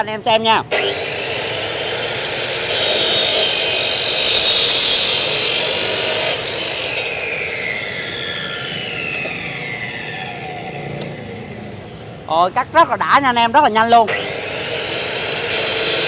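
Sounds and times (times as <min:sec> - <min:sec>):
saw grinding through steel: 0:00.7 - 0:11.7, 0:14.1 - 0:16.0
saw motor whine spinning down: 0:00.7 - 0:11.9, 0:14.1 - 0:16.0.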